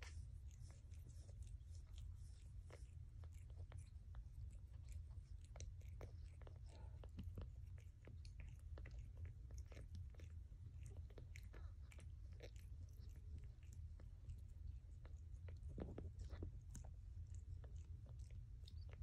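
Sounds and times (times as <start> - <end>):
cat licking wet smacking: 0.0 - 19.0
steady low hum: 0.0 - 19.0.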